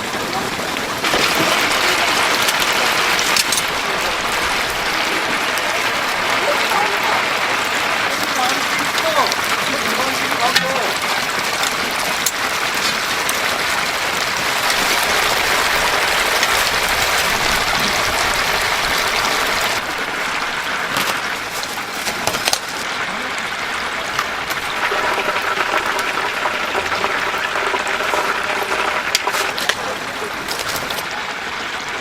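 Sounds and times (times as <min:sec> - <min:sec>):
deep-frying oil sizzle: 0:00.2 - 0:32.0.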